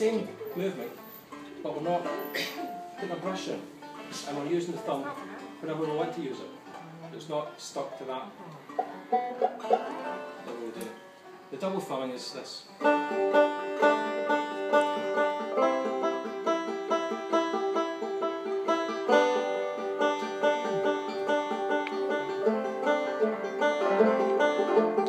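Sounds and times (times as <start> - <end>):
banjo plucked notes: 0.0 - 25.0.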